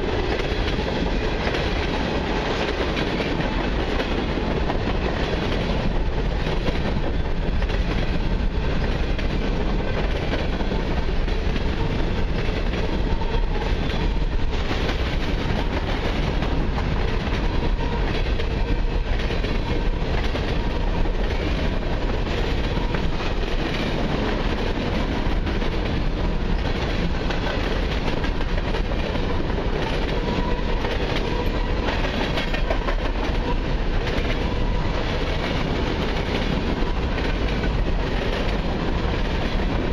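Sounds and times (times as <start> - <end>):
steel wheels rumbling on rail: 0.0 - 39.9
wheels clickety-clack over rail joints: 0.0 - 39.9.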